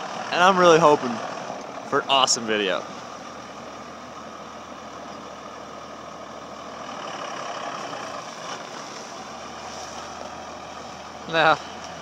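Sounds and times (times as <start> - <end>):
diesel truck pulling away: 0.0 - 12.0.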